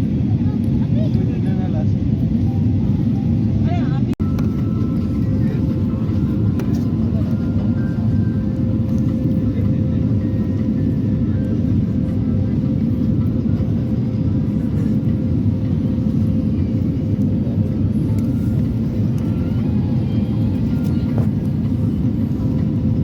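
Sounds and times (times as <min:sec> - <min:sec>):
jet cabin engine rumble: 0:00.0 - 0:23.0.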